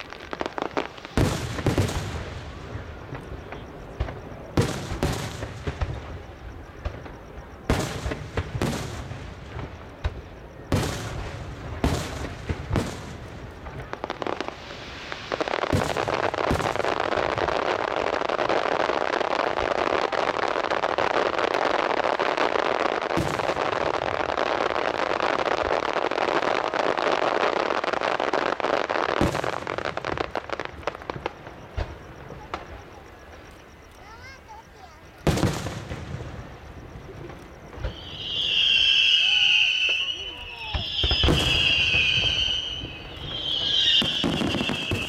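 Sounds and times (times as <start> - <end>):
firework crackle: 0.0 - 45.0.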